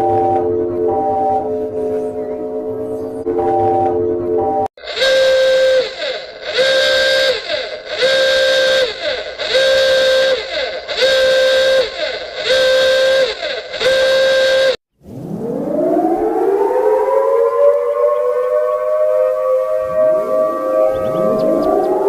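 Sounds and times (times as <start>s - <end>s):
warning siren blasts: 0.0s - 22.0s.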